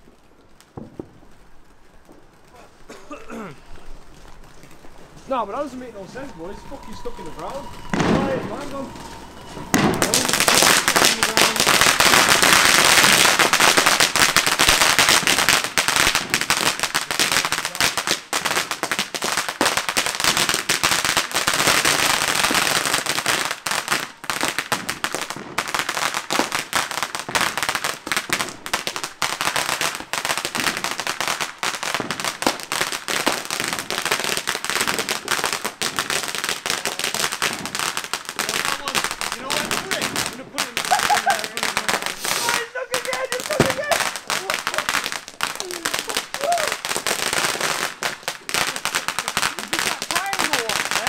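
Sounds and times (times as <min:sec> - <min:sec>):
firecrackers crackling: 0:00.0 - 0:51.0.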